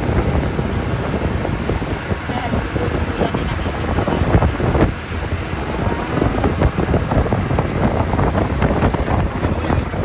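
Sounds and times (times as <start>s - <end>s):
steady low rumble: 0.0s - 10.0s
wind buffeting microphone: 0.0s - 10.0s.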